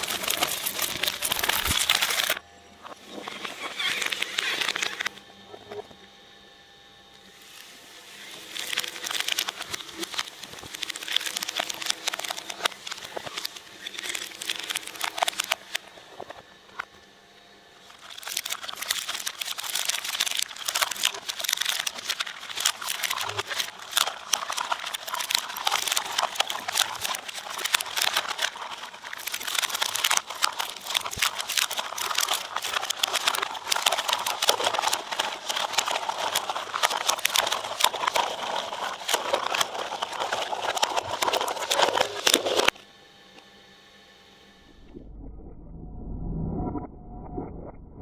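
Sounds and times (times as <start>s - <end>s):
shredder crunching material: 0.0s - 2.4s, 3.0s - 5.1s, 7.4s - 16.4s, 17.8s - 42.8s.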